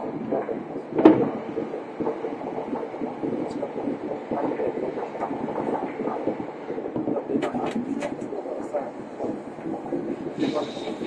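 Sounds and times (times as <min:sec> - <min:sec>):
train carriage rumbling on rails: 0:00.0 - 0:11.0.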